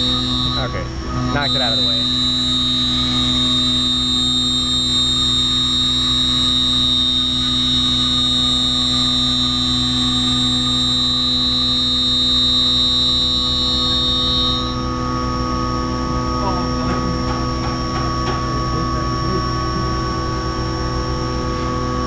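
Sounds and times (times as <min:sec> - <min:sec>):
machine hum: 0:00.0 - 0:22.0
milling machine cutting whine: 0:00.0 - 0:22.0.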